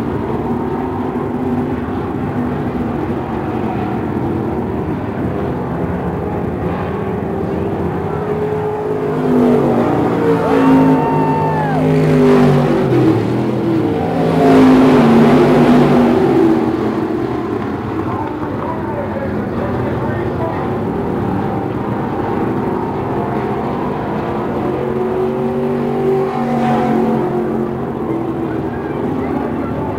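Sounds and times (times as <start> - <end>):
race car engines revving: 0.0 - 29.9.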